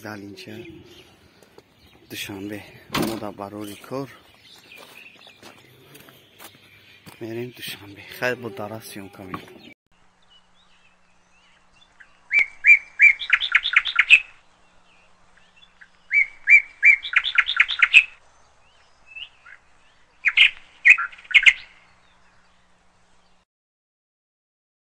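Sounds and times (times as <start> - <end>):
songbird singing: 0.0 - 23.4.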